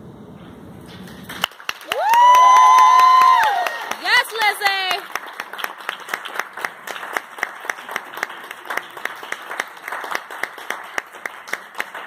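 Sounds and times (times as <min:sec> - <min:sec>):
audience applauding: 0:01.1 - 0:12.0.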